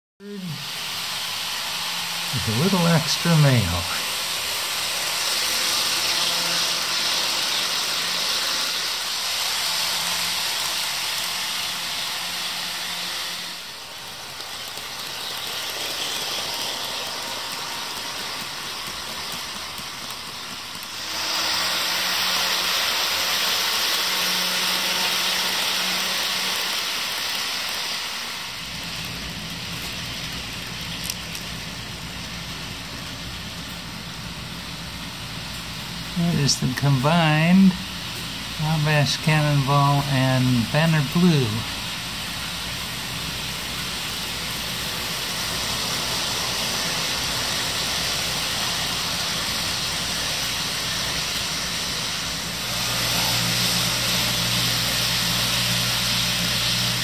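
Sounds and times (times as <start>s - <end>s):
model trains whirring on track: 0.2s - 57.0s.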